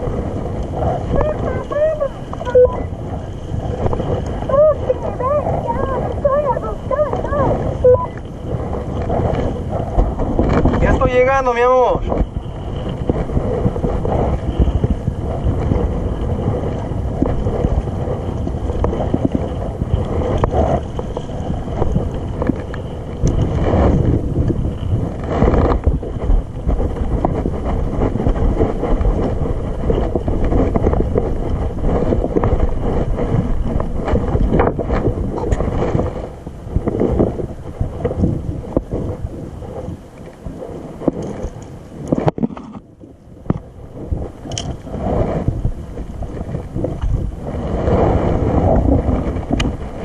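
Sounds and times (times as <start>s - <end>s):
wind rumbling on microphone: 0.0s - 50.0s.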